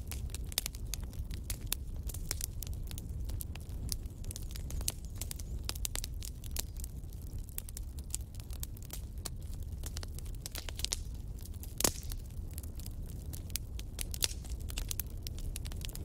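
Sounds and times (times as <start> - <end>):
fire crackling and popping: 0.0 - 16.0
low fire rumble: 0.0 - 16.0.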